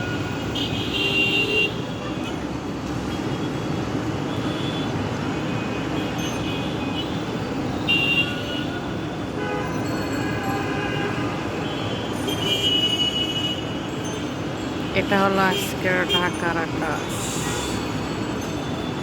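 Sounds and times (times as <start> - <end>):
city traffic noise: 0.0 - 19.0.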